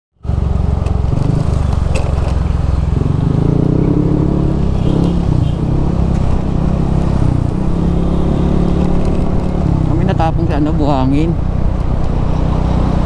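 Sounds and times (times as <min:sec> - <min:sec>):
scooter engine droning: 0:00.2 - 0:13.0.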